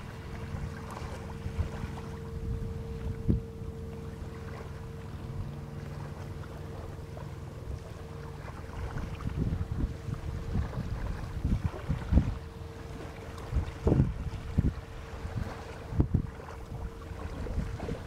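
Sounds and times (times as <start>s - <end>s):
wind buffeting microphone: 0.0s - 5.5s, 8.4s - 18.0s
boat motor running: 0.0s - 18.0s.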